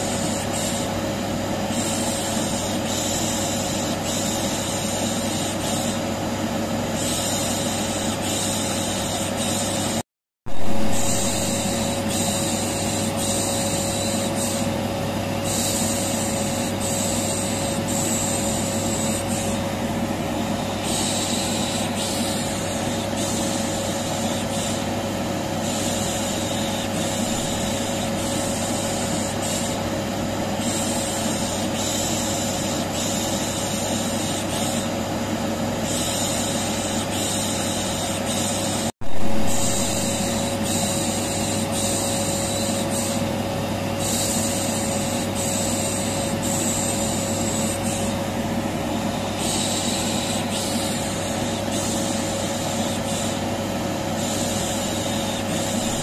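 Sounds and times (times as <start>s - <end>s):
vacuum cleaner whining: 10.5s - 56.0s.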